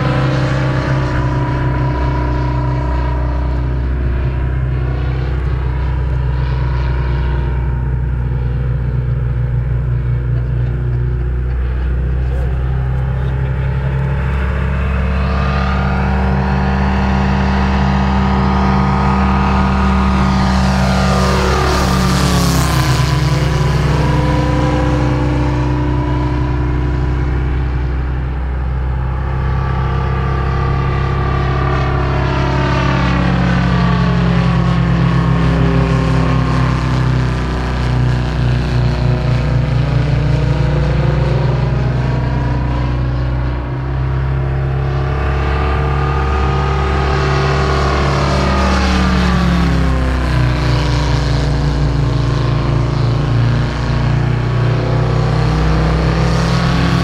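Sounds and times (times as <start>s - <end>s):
model airplane engine running: 0.0s - 57.0s.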